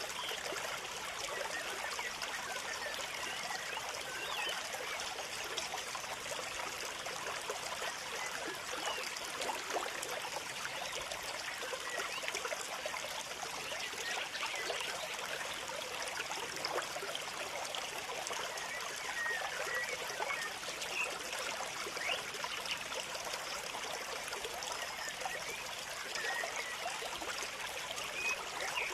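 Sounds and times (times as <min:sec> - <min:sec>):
water trickling: 0:00.0 - 0:28.9.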